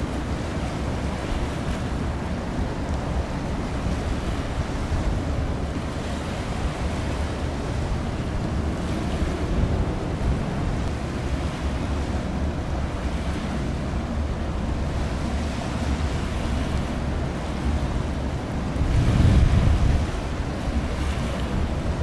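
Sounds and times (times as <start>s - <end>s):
waves on choppy water: 0.0s - 22.0s
wind buffeting microphone: 0.0s - 22.0s.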